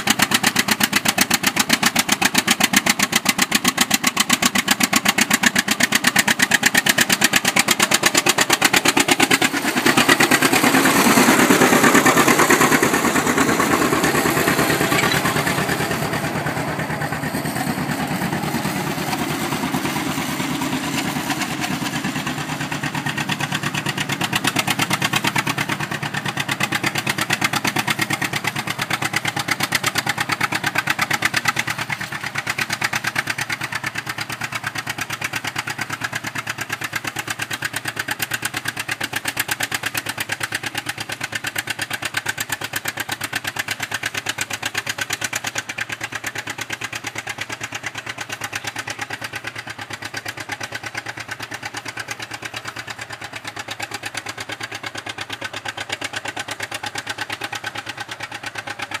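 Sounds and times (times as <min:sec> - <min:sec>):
tractor engine exhaust beat: 0:00.0 - 0:59.0.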